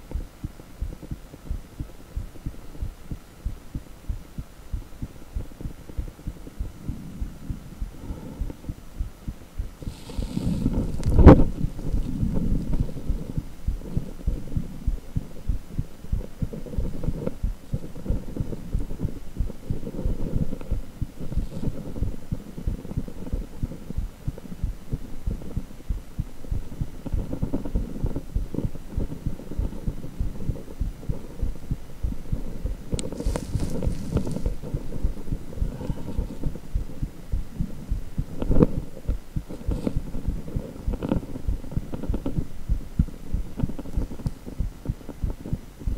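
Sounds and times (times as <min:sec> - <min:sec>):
low rhythmic heartbeat pulses: 0:00.0 - 0:45.9.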